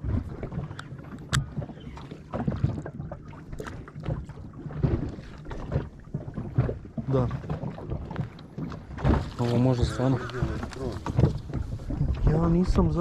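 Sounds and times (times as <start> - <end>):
water slapping boat hull: 0.0 - 13.0.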